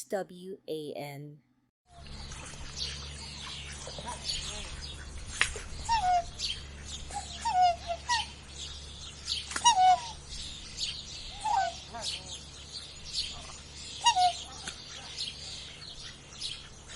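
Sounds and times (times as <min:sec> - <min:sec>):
small birds chirping: 0:01.9 - 0:16.9
steady low hum: 0:02.0 - 0:16.9
short falling bird calls: 0:02.8 - 0:16.9.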